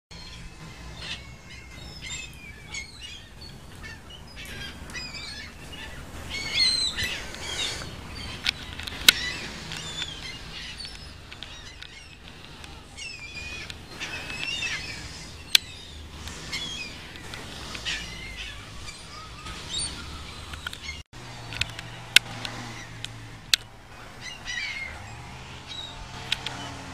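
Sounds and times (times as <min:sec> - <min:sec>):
gulls calling: 0:00.1 - 0:26.9
sharp clicks: 0:03.7 - 0:26.9.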